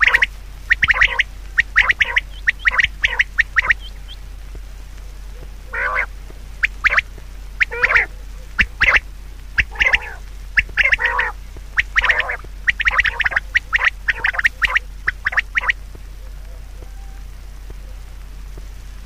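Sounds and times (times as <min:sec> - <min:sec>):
harsh bird calls: 0:00.0 - 0:04.2, 0:05.4 - 0:09.0, 0:09.6 - 0:17.2.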